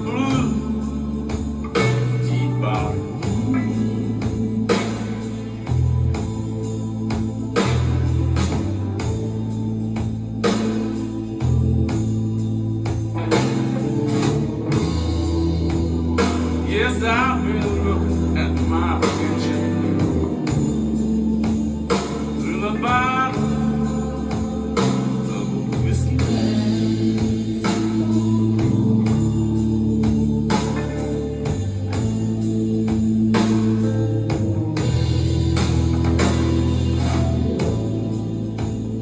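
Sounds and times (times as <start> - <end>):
blues music: 0.0 - 39.0
electric guitar sliding phrases: 0.0 - 39.0.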